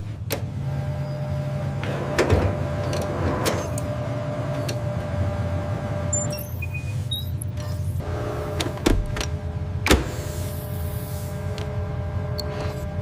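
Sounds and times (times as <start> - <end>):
electric machine hum with whine: 0.0 - 13.0.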